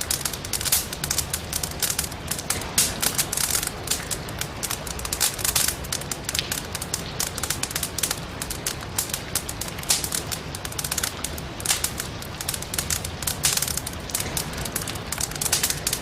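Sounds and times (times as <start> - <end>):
fire crackling and popping: 0.0 - 16.0
rain hissing: 0.0 - 16.0.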